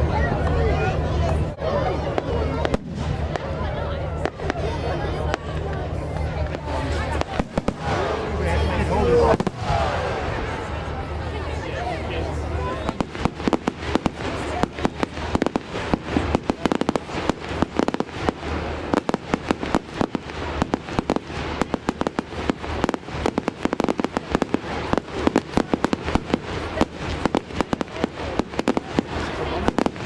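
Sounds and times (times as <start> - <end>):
fireworks bangs: 2.1 - 30.0.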